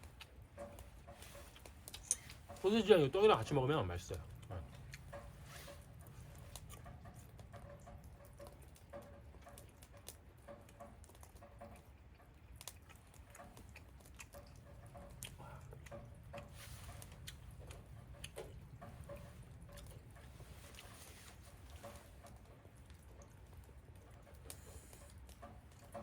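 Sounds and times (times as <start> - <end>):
light rain patter: 0.0 - 26.0
wood fire crackling: 0.0 - 26.0.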